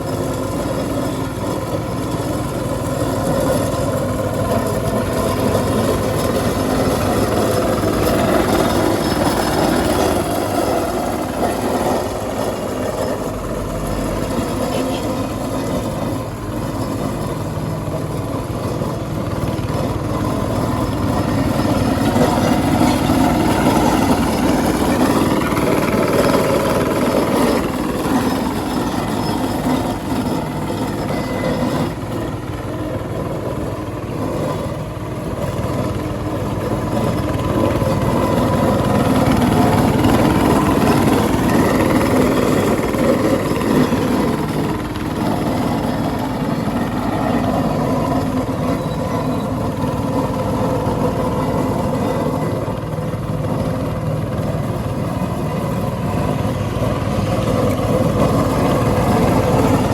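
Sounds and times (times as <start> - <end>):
diesel engine under load: 0.0 - 59.9
machine grinding road surface: 0.0 - 59.9.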